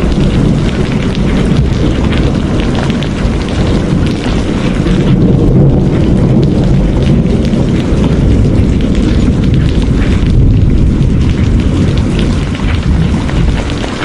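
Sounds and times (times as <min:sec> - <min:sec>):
loud low rumble: 0:00.0 - 0:14.0
raindrop patter: 0:00.0 - 0:14.0.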